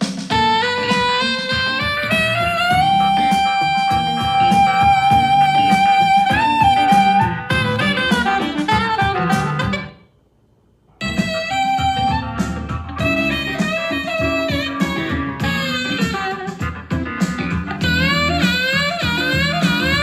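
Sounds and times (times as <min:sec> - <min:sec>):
drums and bass: 0:00.0 - 0:09.9, 0:11.0 - 0:20.0
lead melody: 0:00.3 - 0:09.9, 0:11.0 - 0:20.0.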